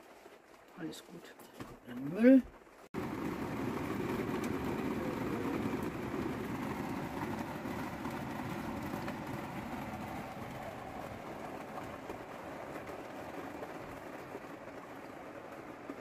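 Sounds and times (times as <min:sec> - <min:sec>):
heavy rain on metal roof: 0:00.0 - 0:16.0.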